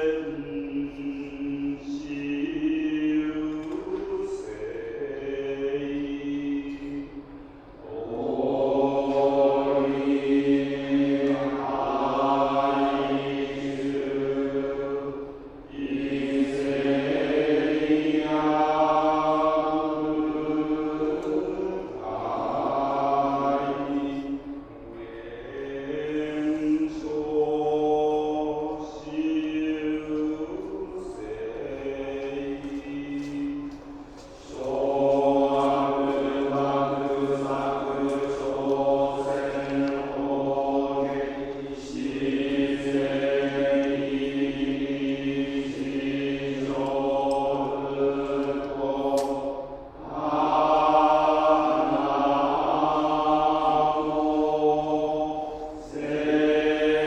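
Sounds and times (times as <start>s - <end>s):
monks chanting: 0.0s - 57.0s.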